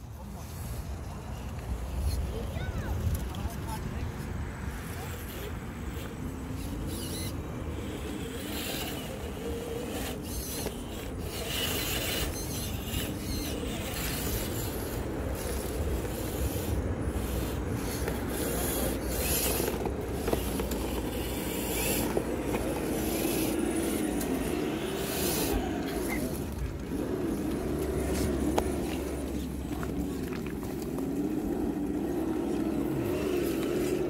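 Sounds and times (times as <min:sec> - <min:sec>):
gritty scraping and crunching: 0:04.8 - 0:34.0
motor whining: 0:05.9 - 0:34.0.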